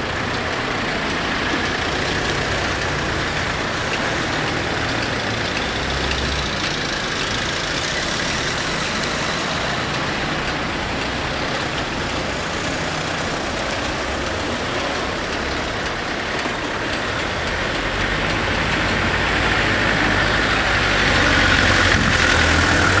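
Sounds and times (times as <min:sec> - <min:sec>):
cars driving slowly past: 0:00.0 - 0:23.0.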